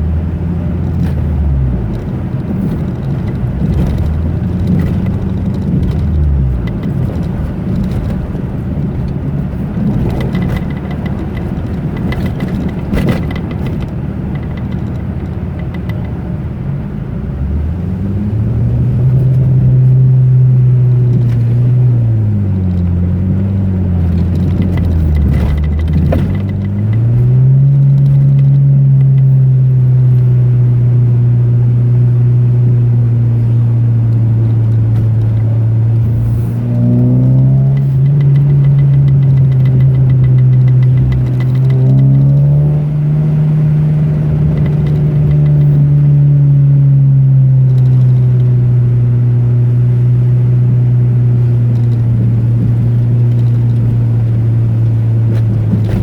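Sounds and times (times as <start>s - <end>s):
car engine accelerating: 0.0s - 56.0s
car rattling on bumpy road: 0.0s - 56.0s.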